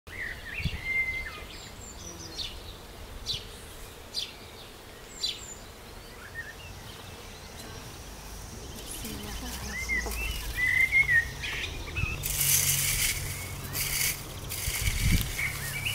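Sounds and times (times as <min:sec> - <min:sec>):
small birds chirping: 0:00.1 - 0:15.9.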